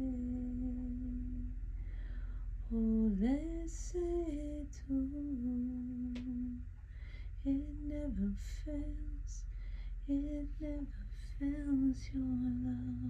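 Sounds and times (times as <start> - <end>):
woman singing wordless melody: 0.0 - 1.8, 2.6 - 13.0
steady low hum: 0.0 - 13.0.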